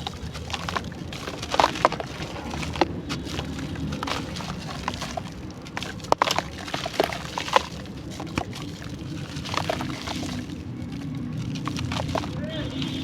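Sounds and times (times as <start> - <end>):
dry clay crunching and crumbling: 0.0 - 13.0.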